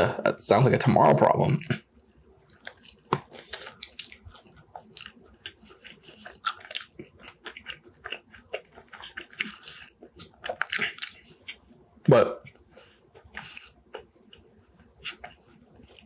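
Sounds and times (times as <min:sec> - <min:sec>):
person chewing food: 0:01.6 - 0:16.0.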